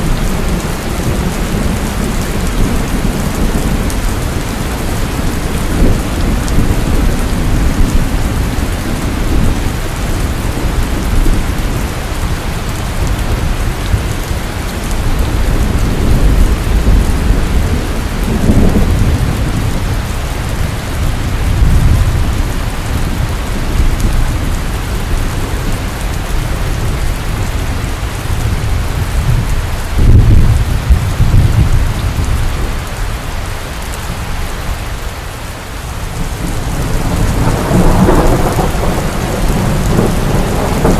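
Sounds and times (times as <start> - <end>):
thunder rumbling: 0.0 - 33.1, 35.9 - 40.9
heavy rain falling: 0.0 - 40.9.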